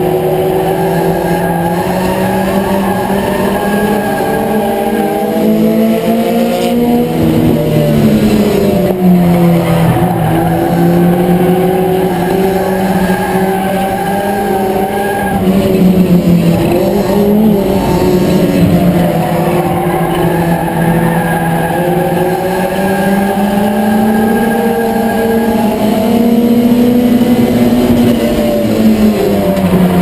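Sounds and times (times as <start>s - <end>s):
race car engine running hard: 0.0s - 30.0s.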